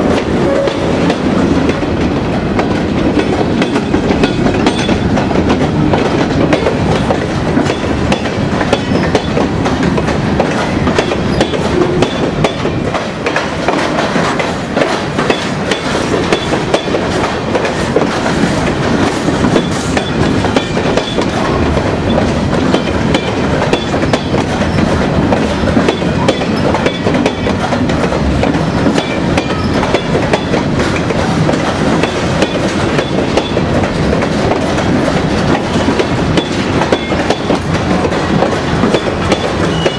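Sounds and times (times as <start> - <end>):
freight train rolling past: 0.0 - 39.9
wheels clicking over rail joints: 0.0 - 39.9.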